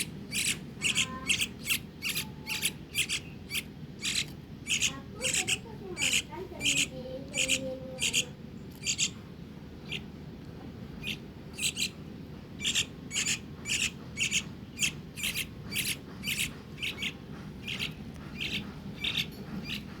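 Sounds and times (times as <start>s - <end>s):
bird chick chirping: 0.0s - 9.2s, 9.8s - 10.1s, 11.0s - 12.0s, 12.6s - 20.0s.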